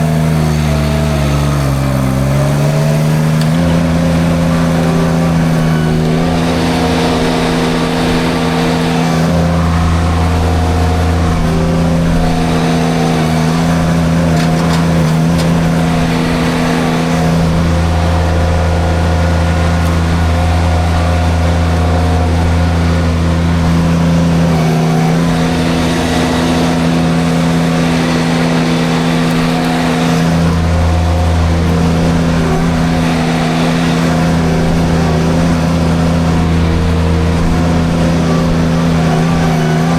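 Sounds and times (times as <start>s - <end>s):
mulcher cutting through brush: 0.0s - 39.9s
skid steer engine running: 0.0s - 39.9s.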